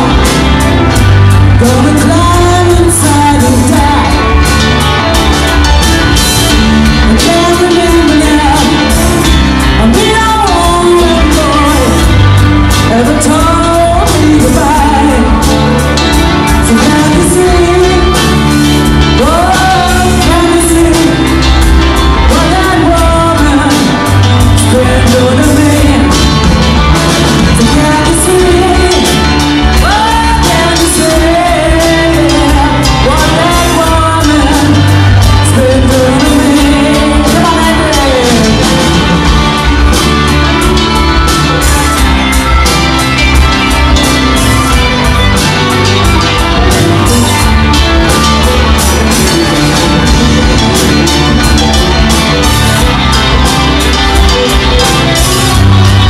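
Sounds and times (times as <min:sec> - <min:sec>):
rock band playing: 0:00.0 - 0:56.0
singer singing: 0:00.0 - 0:56.0.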